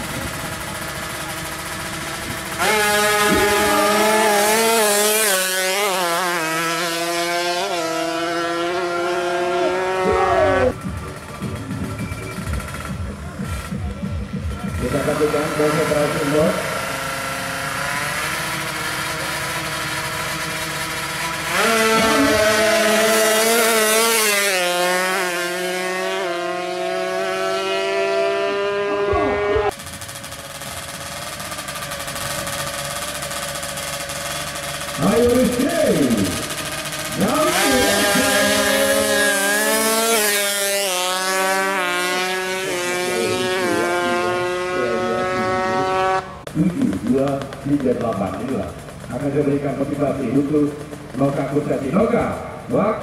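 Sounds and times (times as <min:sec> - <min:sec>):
two-stroke engines buzzing: 0:00.0 - 0:53.0.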